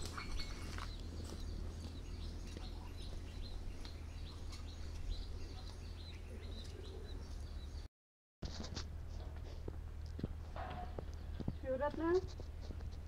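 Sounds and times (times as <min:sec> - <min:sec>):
small birds chirping: 0:00.0 - 0:07.9, 0:10.0 - 0:13.0.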